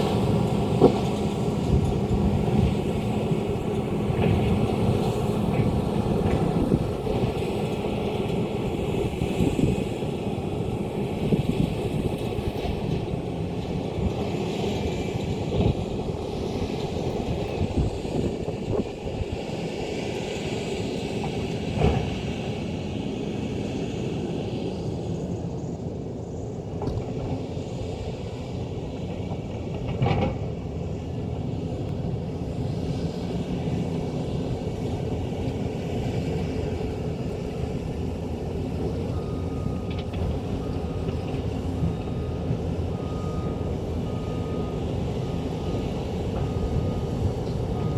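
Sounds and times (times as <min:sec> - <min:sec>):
excavator diesel engine under load: 0:00.0 - 0:47.9.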